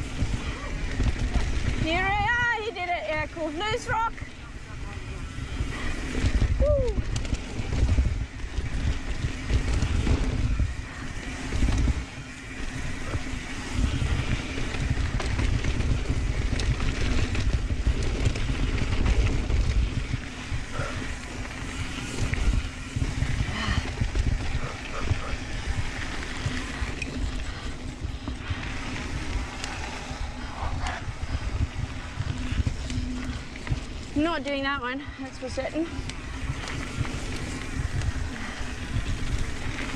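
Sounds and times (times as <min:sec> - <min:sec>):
bike tyre and trail rumble: 0:00.0 - 0:39.9
wind buffeting microphone: 0:00.0 - 0:39.9.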